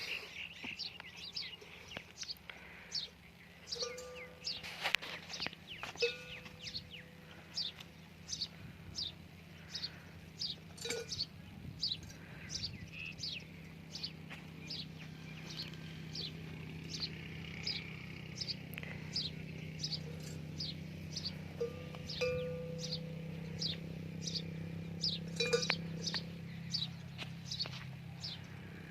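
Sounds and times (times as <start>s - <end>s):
small bird chirping: 0.0s - 28.7s
steady low hum: 0.0s - 28.9s.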